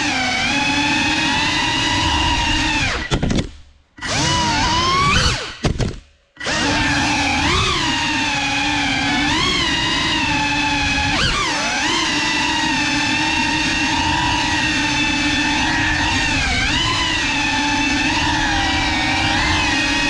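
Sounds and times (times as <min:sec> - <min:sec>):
drone propellers whining: 0:00.0 - 0:03.4, 0:04.0 - 0:05.7, 0:06.4 - 0:20.0.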